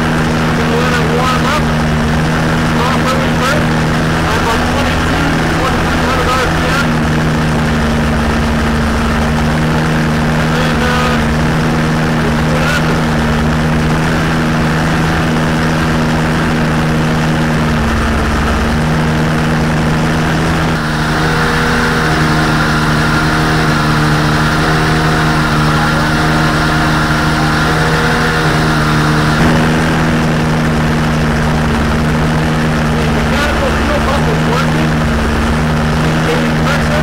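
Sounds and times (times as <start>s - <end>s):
ultralight engine and propeller: 0.0s - 37.0s.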